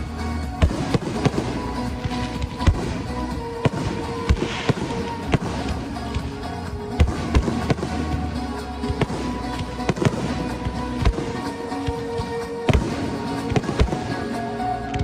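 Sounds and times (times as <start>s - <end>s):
fireworks bangs: 0.0s - 15.0s
fireworks hissing crackle: 0.0s - 15.0s
music playing: 0.0s - 15.0s.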